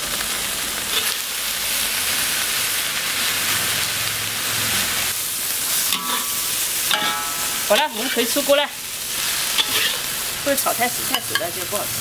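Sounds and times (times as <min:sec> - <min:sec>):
fish frying in a wok: 0:00.0 - 0:12.0.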